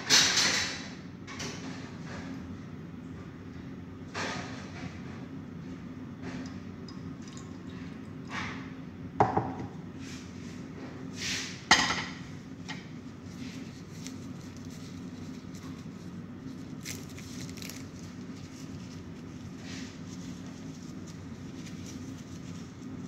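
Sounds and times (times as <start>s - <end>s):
steady low hum: 2.0s - 23.0s.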